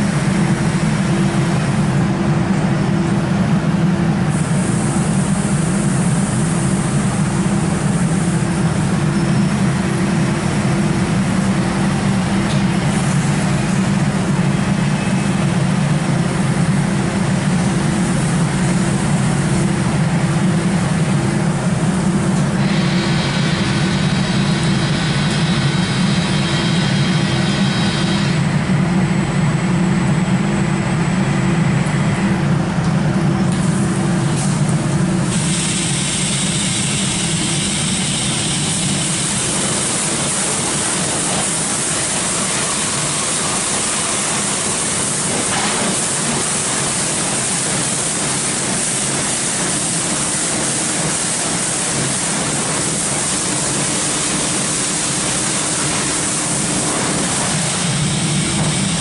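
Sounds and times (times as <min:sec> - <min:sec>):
car wash machine hum: 0:00.0 - 0:59.0.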